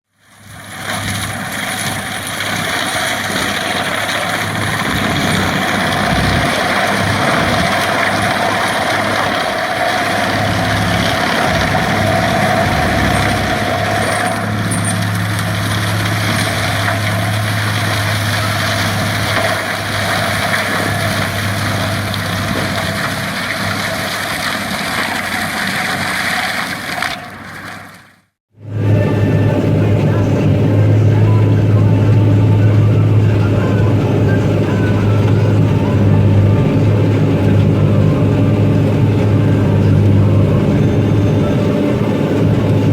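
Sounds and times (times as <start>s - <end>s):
tractor running a mulcher: 0.0s - 42.9s.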